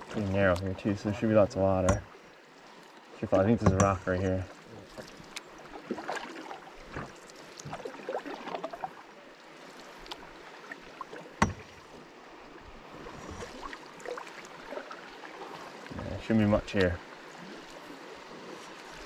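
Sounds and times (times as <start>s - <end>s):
moving water wash: 0.0s - 19.0s
paddles splashing in water: 0.0s - 19.0s.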